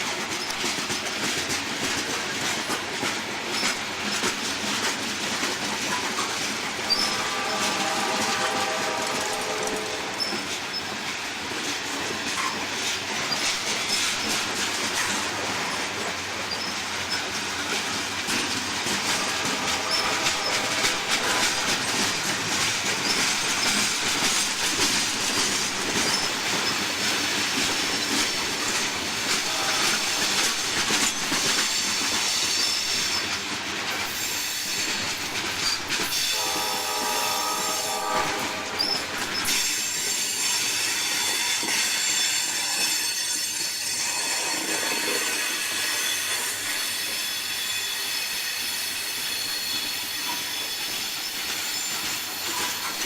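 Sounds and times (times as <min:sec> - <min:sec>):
rumble and rattle of train cars: 0:00.0 - 0:53.0
train wheels squealing: 0:03.4 - 0:53.0.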